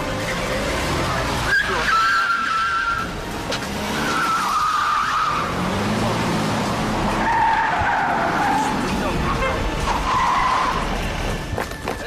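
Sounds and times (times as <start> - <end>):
car tyres squealing: 0.8 - 12.0.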